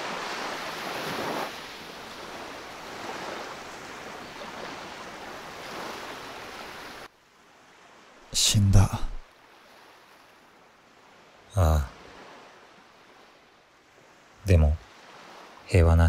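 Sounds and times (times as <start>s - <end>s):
ocean waves washing on a beach: 0.0s - 16.0s.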